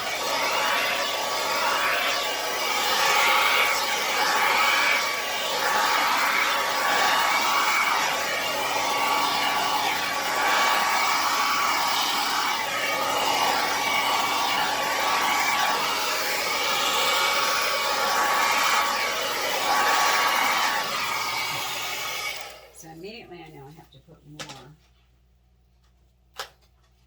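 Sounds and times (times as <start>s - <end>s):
hair dryer blowing: 0.0s - 22.8s.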